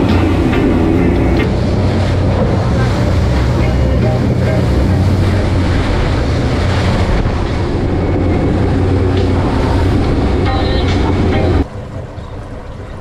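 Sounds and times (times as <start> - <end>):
wind and spray rushing: 0.0 - 12.0
outboard engine hum: 0.0 - 13.0.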